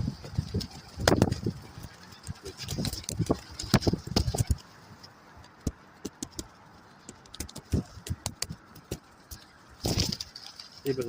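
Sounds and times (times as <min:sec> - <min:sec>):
pigeons pecking at seed: 0:00.0 - 0:11.0.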